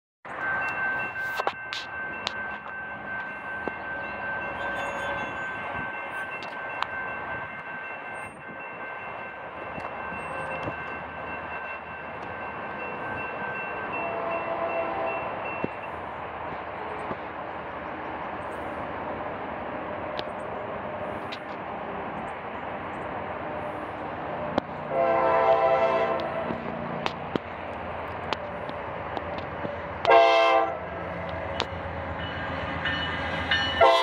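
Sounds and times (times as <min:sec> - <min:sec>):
crossing warning bell ringing: 0:00.3 - 0:17.0, 0:23.0 - 0:34.0.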